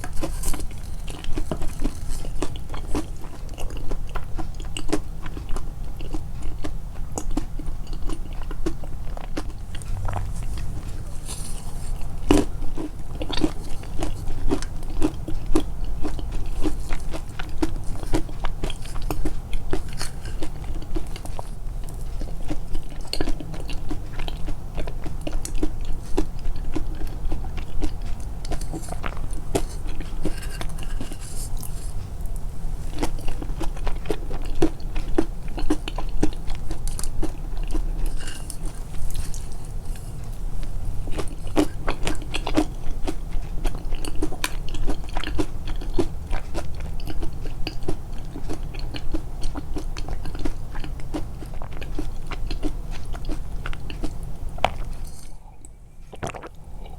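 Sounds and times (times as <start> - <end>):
chewing crunchy food: 0.0 - 56.9.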